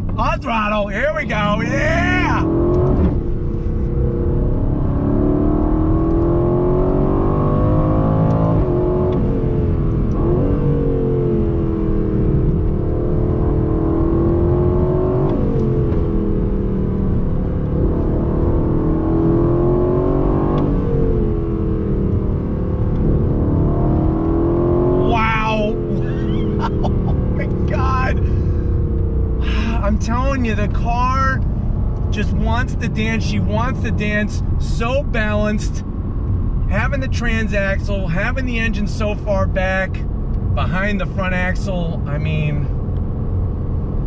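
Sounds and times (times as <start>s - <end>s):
car engine under full throttle: 0.0s - 44.0s.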